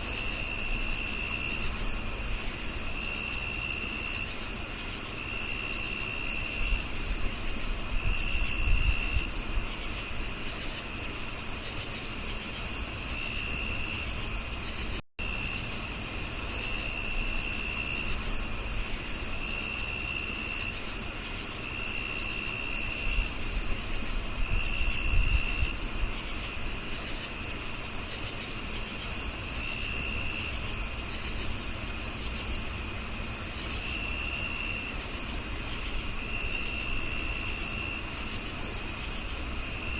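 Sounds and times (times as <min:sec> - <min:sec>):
crickets chirping and trilling: 0:00.0 - 0:39.9.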